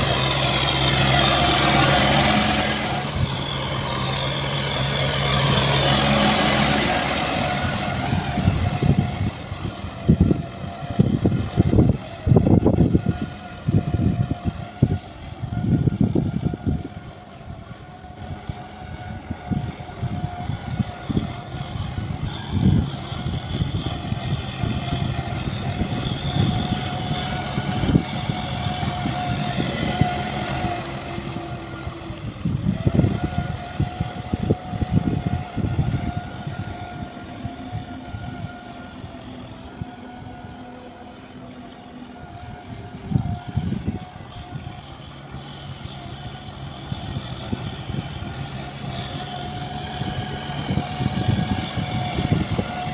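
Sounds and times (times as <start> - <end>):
tractor diesel engine drone: 0.0 - 52.9.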